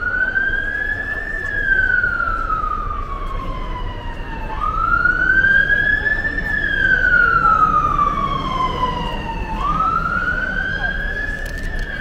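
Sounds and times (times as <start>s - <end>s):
emergency siren wailing: 0.0s - 12.0s
street traffic: 0.0s - 12.0s.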